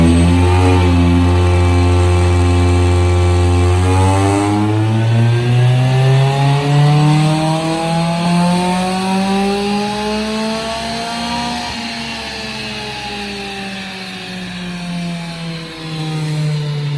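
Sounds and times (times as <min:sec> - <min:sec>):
small engine revving: 0:00.0 - 0:16.9.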